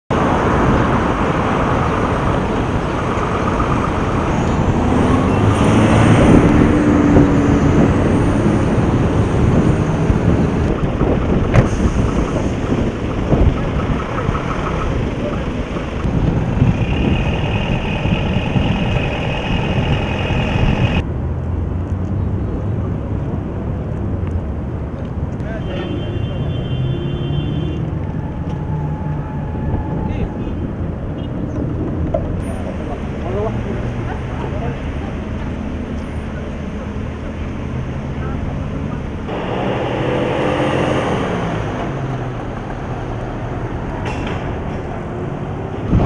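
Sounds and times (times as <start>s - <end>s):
cars and trucks passing: 0.1s - 46.0s
noisy outdoor background: 0.1s - 46.0s.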